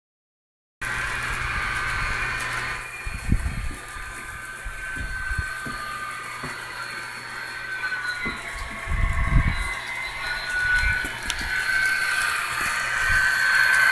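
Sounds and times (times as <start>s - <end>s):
model train motor whine: 0.8s - 13.9s.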